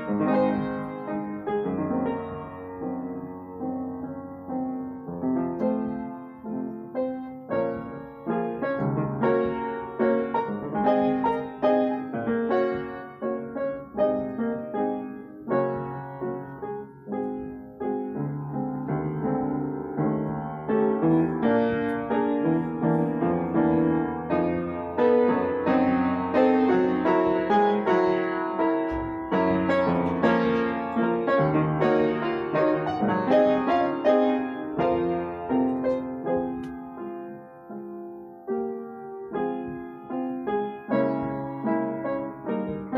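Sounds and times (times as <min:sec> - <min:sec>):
solo piano piece: 0:00.0 - 0:42.9.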